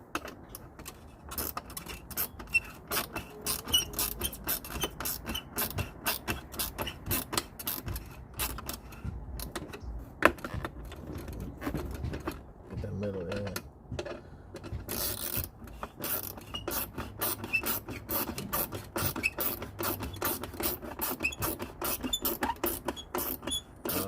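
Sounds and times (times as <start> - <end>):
socket ratchet clicking: 0.2 - 9.8, 13.3 - 24.0.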